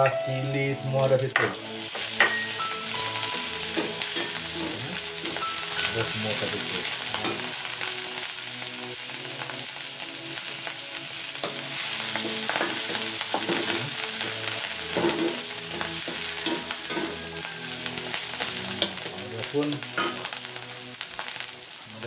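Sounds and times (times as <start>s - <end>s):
paste sizzling in oil: 1.0s - 22.0s.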